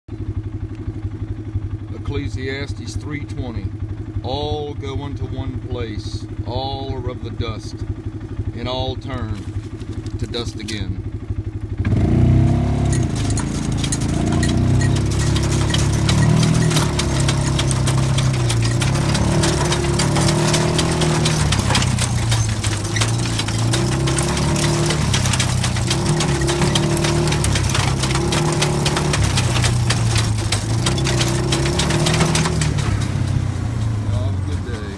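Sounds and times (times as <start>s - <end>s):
tractor engine running: 0.1s - 34.9s
manure spreader rattling: 1.9s - 11.2s, 11.9s - 34.9s.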